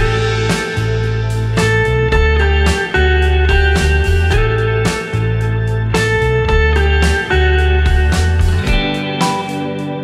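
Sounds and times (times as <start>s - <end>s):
instrumental guitar music: 0.0s - 10.0s.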